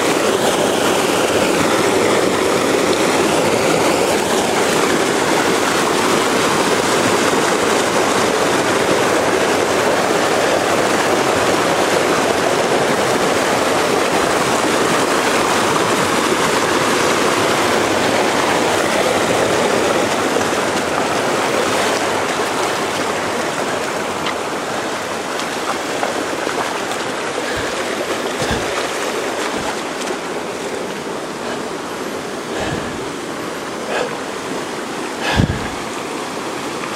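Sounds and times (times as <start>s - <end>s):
stream rushing over rocks: 0.0s - 36.9s.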